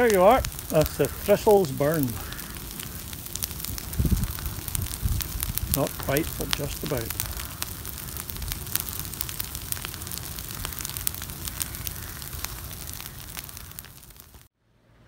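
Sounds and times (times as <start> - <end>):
fire crackling and popping: 0.0 - 14.5
rush of flame: 0.0 - 14.5.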